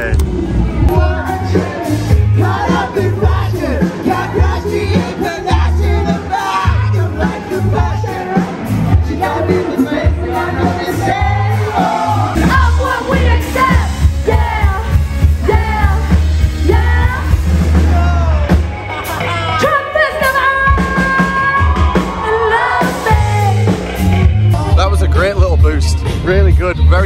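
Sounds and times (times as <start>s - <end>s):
live band playing: 0.0s - 27.0s
steady bass line: 0.0s - 27.0s
person singing: 0.8s - 24.9s.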